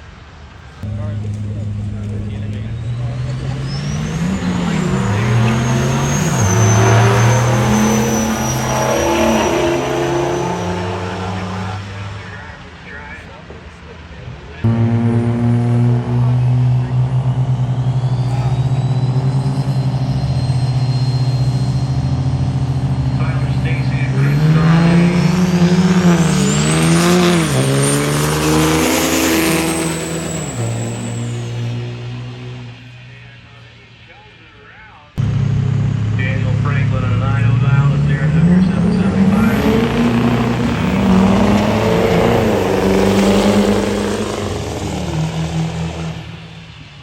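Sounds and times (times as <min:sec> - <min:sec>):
diesel truck engine revving: 0:00.7 - 0:47.0
turbocharger whistle: 0:00.8 - 0:12.4, 0:14.6 - 0:34.6, 0:35.2 - 0:47.0.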